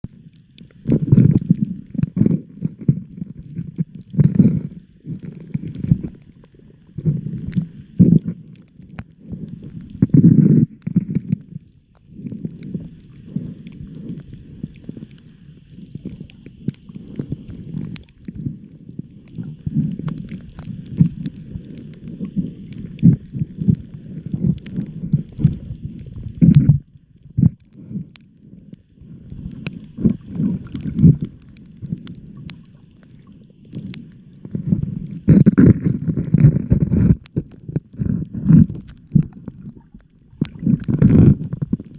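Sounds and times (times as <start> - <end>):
underwater rumbling and gurgling: 0.0 - 41.9.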